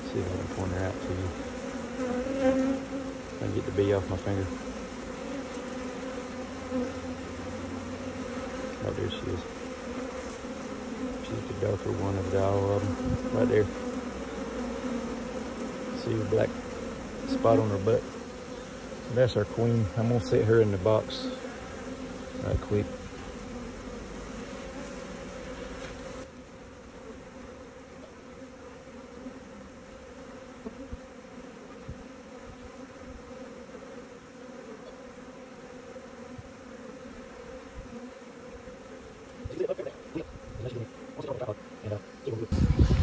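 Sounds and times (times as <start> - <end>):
bee swarm buzzing: 0.0 - 43.0.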